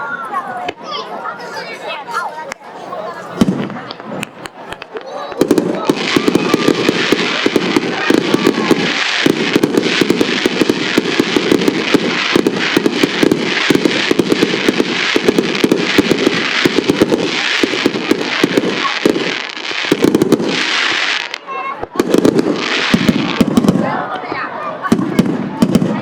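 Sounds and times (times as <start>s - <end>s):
fireworks crackling and popping: 0.6s - 1.1s, 1.7s - 26.0s.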